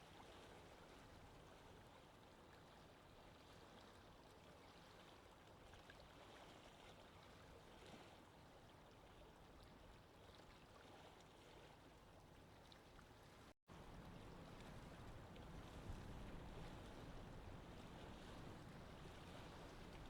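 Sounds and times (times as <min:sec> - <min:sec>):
faint water noise: 0:00.0 - 0:20.0.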